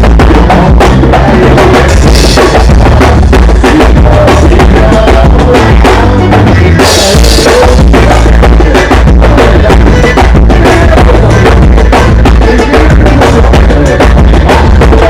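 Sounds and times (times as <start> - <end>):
drum hits: 0.0 - 15.0
live band playing: 0.0 - 15.0.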